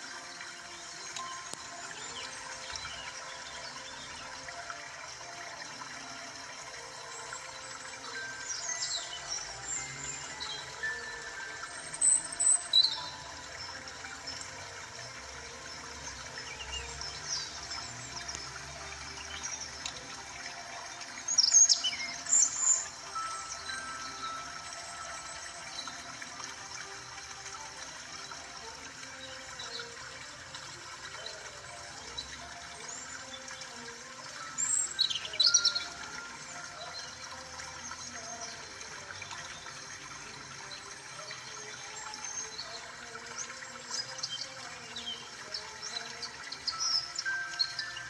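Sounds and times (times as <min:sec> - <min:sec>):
soft background music: 0:00.0 - 0:48.0.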